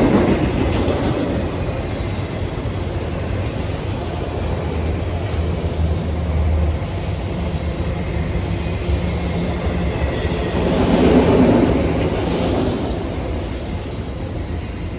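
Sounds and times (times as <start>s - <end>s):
diesel locomotive drone: 0.0s - 14.9s
wheels rumbling on rail: 0.0s - 14.9s.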